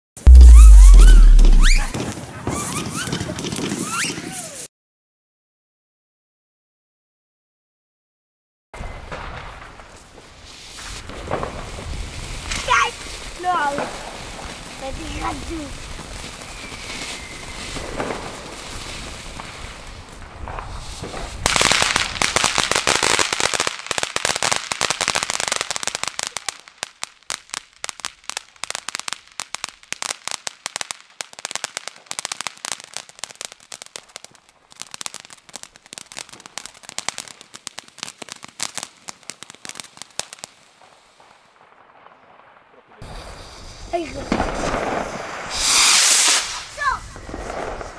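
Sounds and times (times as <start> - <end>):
firework fountain hissing and crackling: 0.3 - 4.7, 9.6 - 41.9, 43.0 - 47.9.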